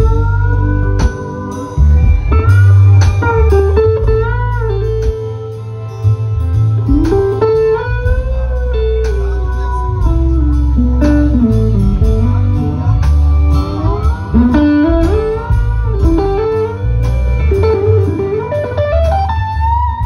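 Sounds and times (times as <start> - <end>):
electric guitar solo: 0.0 - 5.6, 6.9 - 20.0
low bass line: 0.0 - 20.0.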